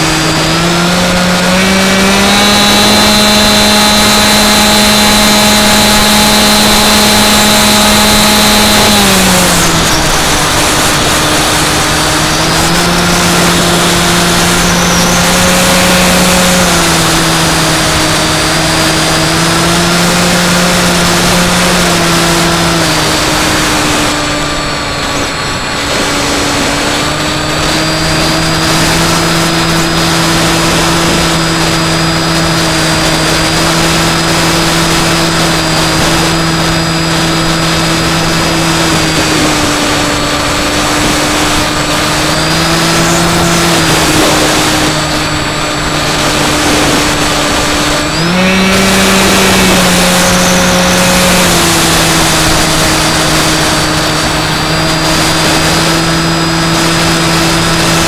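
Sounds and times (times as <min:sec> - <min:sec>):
electric motor and propeller hum: 0:00.0 - 0:58.0
wind rush: 0:00.0 - 0:58.0.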